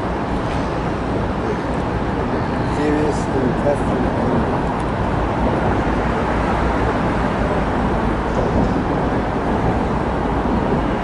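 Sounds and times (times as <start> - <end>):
busy harbour rumble: 0.0 - 11.0.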